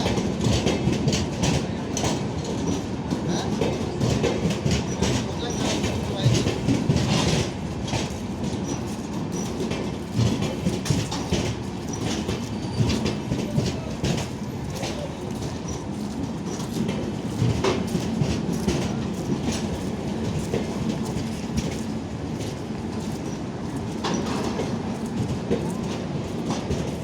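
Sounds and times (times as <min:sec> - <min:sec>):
train coaches rumbling by: 0:00.0 - 0:27.0
wheels clacking over rail joints: 0:00.0 - 0:27.0.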